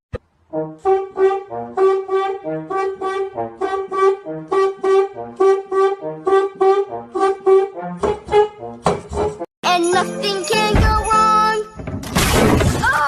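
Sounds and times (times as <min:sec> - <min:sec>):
bouncy brass music: 0:00.4 - 0:11.5.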